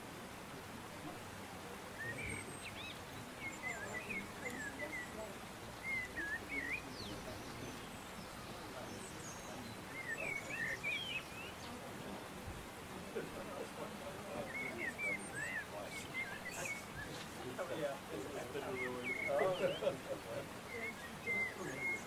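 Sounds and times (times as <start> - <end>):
outdoor background hiss: 0.0 - 22.0
small birds chirping: 0.7 - 22.0.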